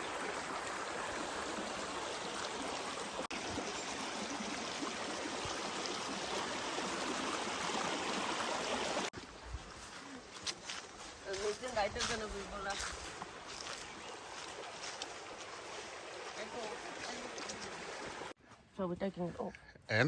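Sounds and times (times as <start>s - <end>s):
rushing flowing water: 0.0s - 18.4s.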